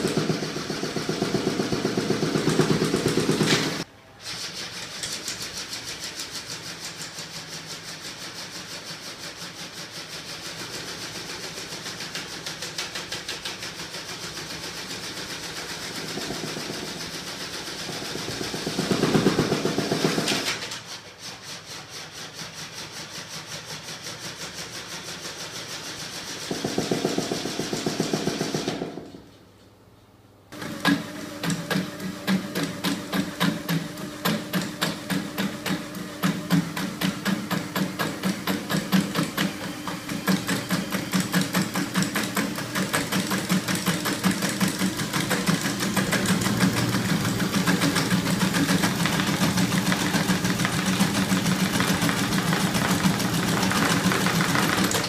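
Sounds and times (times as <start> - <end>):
engine mechanism clattering and knocking: 0.0 - 3.9, 4.5 - 29.3, 30.6 - 55.0.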